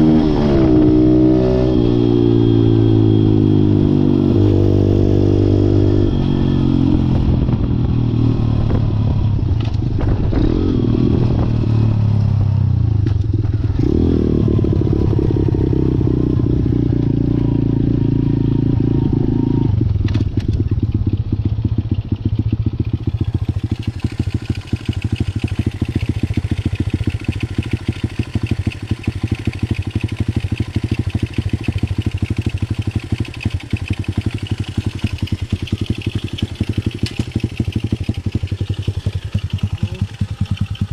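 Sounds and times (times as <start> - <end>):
pit bike engine revving and idling: 0.0 - 40.9.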